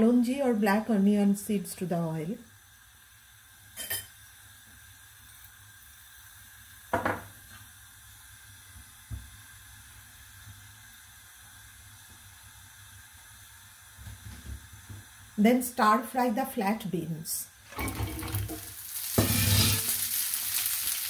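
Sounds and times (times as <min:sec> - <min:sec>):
seeds sizzling in hot oil: 0:00.0 - 0:21.0.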